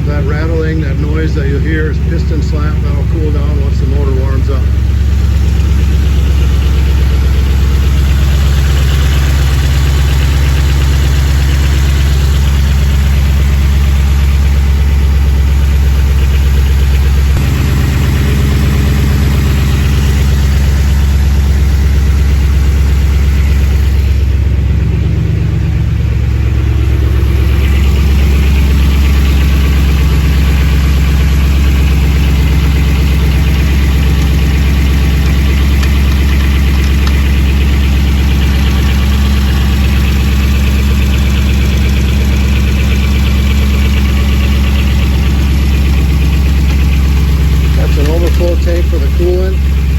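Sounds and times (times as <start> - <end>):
engine idling with rattle: 0.0 - 49.9.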